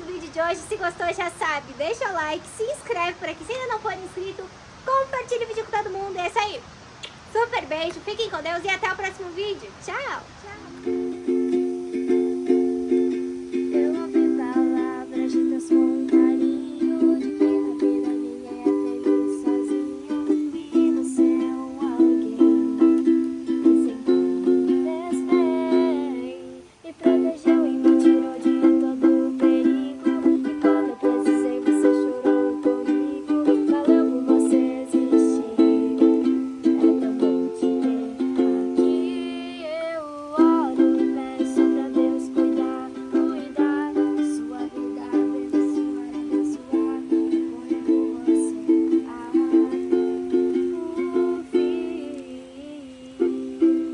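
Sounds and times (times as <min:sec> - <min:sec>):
plucked string tune: 0:10.6 - 0:53.9.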